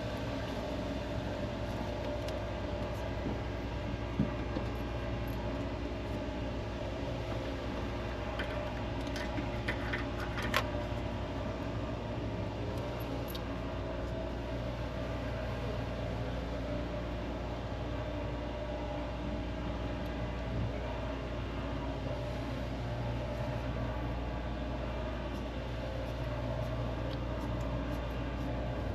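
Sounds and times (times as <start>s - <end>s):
low mechanical hum: 0.0s - 28.9s.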